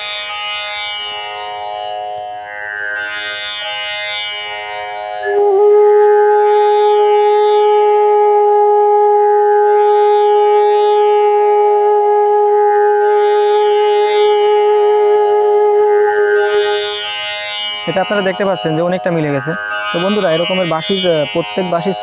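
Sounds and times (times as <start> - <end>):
tanpura drone plucked strings: 0.0 - 22.0
bamboo flute holding a long note: 2.9 - 22.0.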